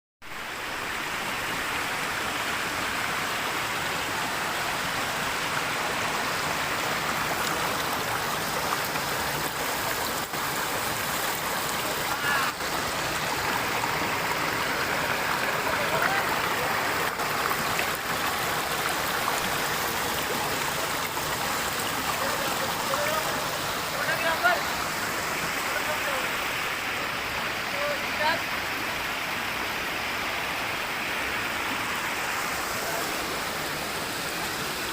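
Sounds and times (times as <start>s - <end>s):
river water rushing: 0.2s - 34.9s.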